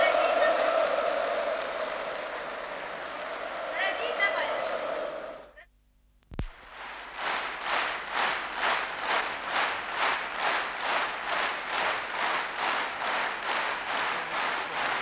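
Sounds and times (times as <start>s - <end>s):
crowd clapping in unison: 0.0s - 5.5s, 6.4s - 15.0s.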